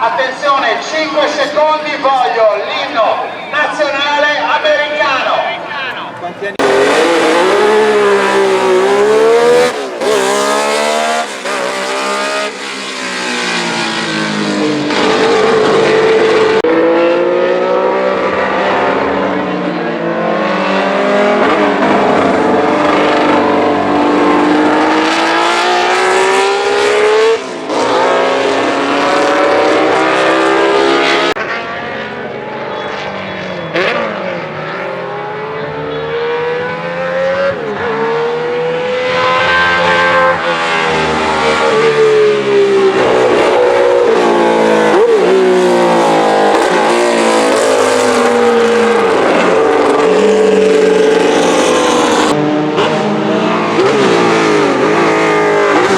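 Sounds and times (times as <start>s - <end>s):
racing car engine revving: 6.2s - 55.9s.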